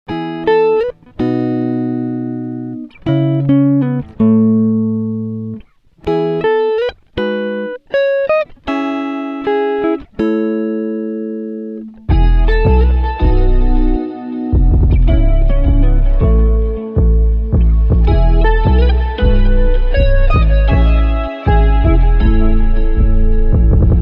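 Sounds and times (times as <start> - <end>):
plucked guitar music: 0.1 - 24.0.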